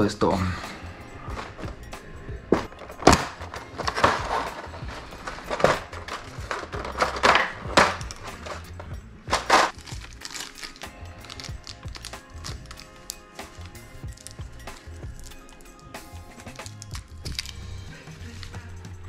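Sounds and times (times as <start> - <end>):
background music: 0.0 - 19.0
plastic blister trays handled: 1.3 - 1.8, 2.5 - 15.7, 16.3 - 18.6.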